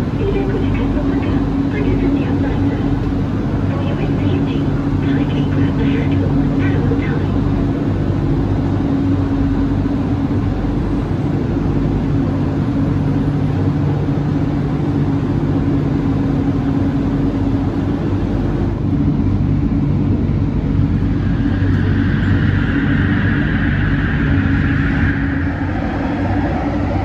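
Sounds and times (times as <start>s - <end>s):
held hum tones: 0.0s - 27.0s
high whine: 0.0s - 27.0s
low mechanical drone: 0.0s - 27.0s.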